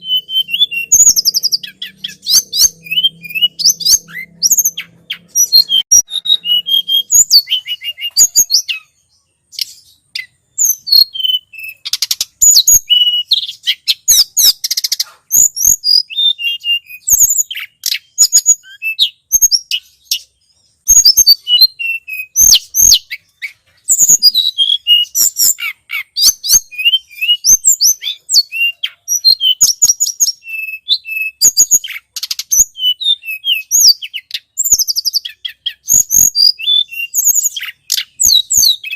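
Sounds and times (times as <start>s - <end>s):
bird high-pitched chirps and trills: 0.0s - 38.9s.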